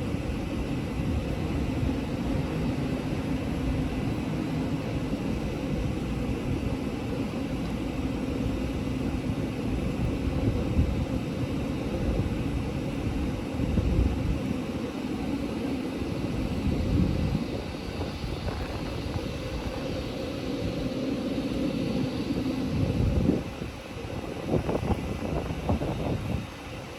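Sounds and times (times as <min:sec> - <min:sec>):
train rumbling: 0:00.0 - 0:26.9.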